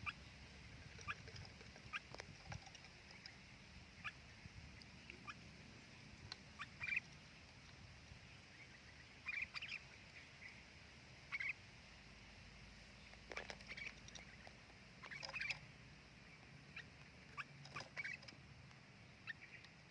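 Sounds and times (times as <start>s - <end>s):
birds chirping: 0.0s - 10.7s, 11.3s - 11.6s, 12.9s - 19.9s.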